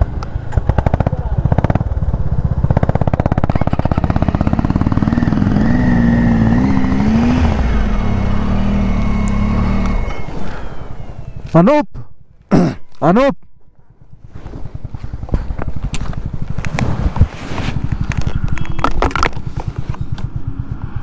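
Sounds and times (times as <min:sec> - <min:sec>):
motorcycle engine running: 0:00.0 - 0:11.6, 0:13.6 - 0:21.0.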